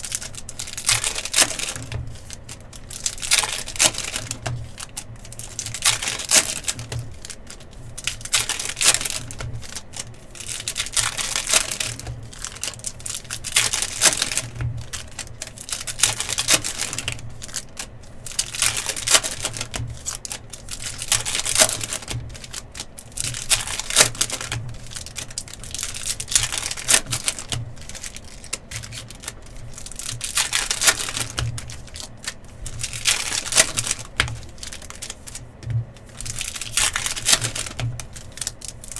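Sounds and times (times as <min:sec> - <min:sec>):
wrappers crinkling and tearing: 0:00.0 - 0:38.9.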